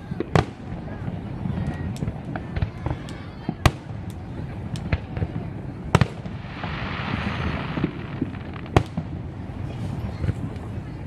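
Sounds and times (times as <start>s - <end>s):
firework bangs: 0.0s - 11.0s
firework hissing crackle: 0.0s - 11.0s.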